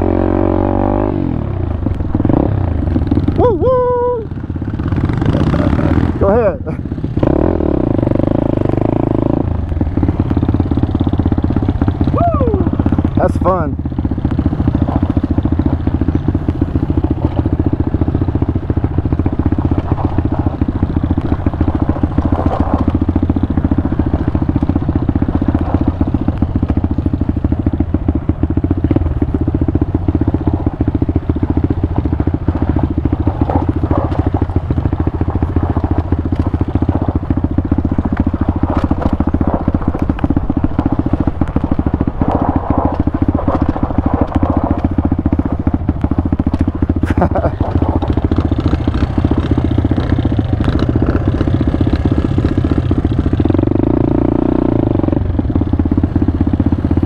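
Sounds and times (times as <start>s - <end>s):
motorbike engine running: 0.0s - 57.0s.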